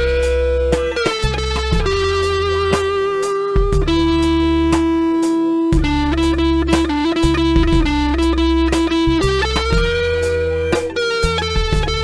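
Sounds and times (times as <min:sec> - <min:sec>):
electric guitar melody: 0:00.0 - 0:12.0
low bass line: 0:00.0 - 0:12.0.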